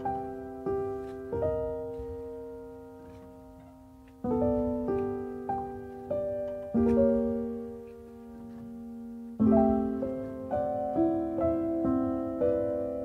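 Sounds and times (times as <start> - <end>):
piano notes ringing: 0.0 - 13.0.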